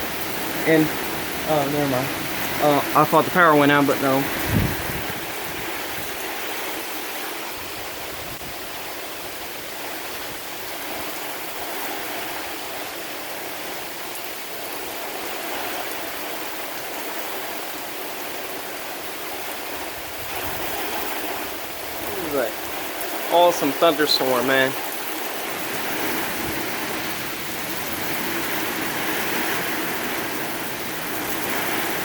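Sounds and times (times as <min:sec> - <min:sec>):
storm wind and rain: 0:00.0 - 0:32.0.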